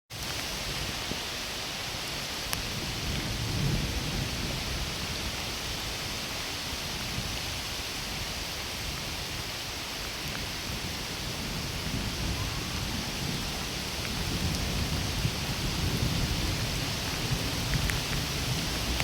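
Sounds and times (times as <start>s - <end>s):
heavy rain on foliage: 0.1s - 19.0s.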